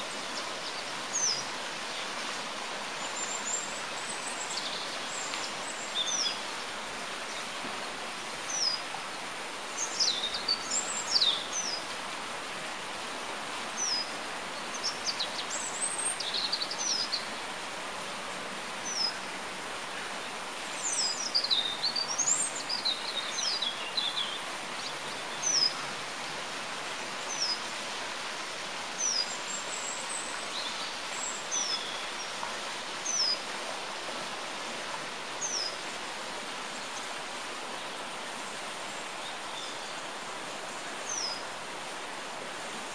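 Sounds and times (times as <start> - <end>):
songbirds singing and calling: 0.0 - 12.0, 13.7 - 17.5, 18.8 - 19.3, 20.2 - 26.1, 27.1 - 33.6, 35.2 - 35.9, 36.6 - 41.6
steady hiss: 0.0 - 42.9.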